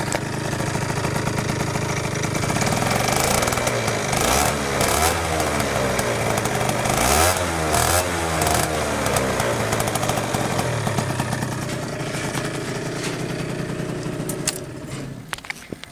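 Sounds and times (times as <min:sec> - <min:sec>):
scooter engine revving and idling: 0:00.0 - 0:15.6.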